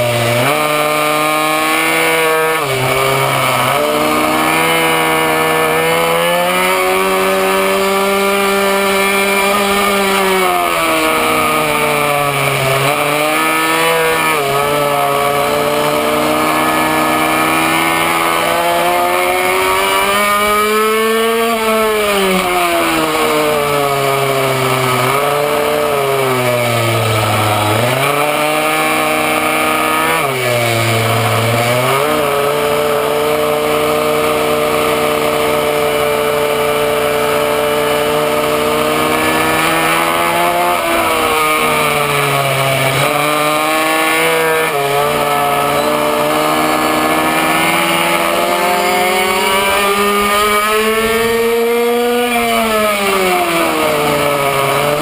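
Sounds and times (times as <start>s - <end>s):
small two-stroke engine revving: 0.0s - 55.0s.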